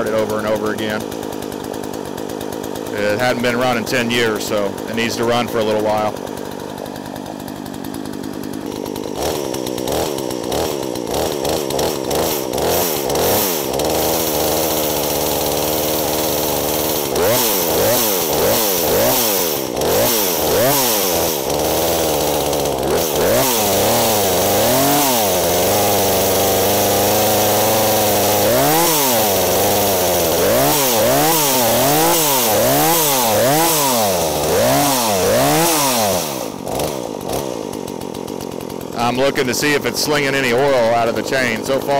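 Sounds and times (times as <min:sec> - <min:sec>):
chainsaw engine revving: 0:00.0 - 0:41.9.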